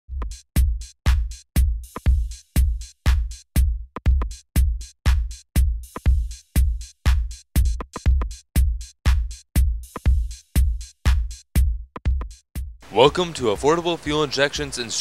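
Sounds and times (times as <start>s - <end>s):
drum machine beat: 0.1s - 14.2s.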